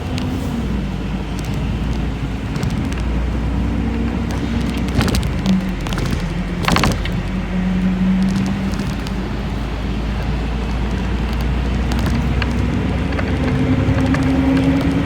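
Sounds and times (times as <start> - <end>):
bus engine drone and road noise: 0.0 - 15.0
rattling clicks: 0.0 - 15.0.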